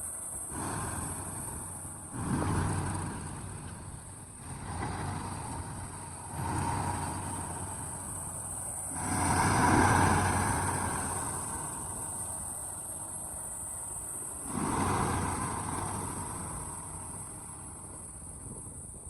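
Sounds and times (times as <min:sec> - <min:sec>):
heavy machinery diesel engine surging: 0:00.0 - 0:19.0.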